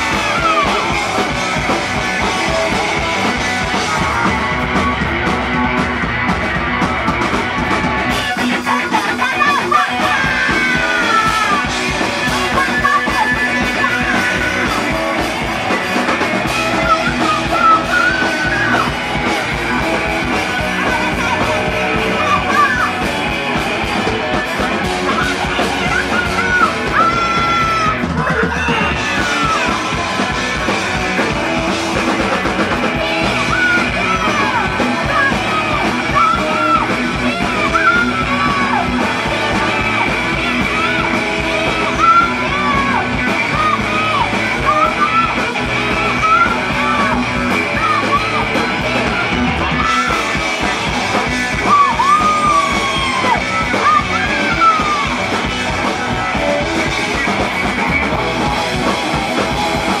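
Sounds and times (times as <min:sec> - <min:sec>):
electric guitar: 0:00.0 - 1:00.0
punk rock band playing: 0:00.0 - 1:00.0
singer yelling and singing: 0:00.0 - 1:00.0.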